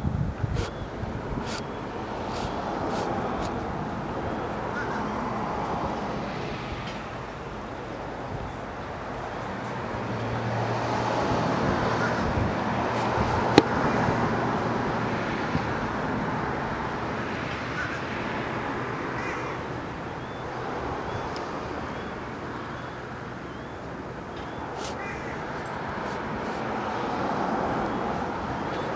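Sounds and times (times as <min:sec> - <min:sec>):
passing motor traffic: 0:00.0 - 0:28.9.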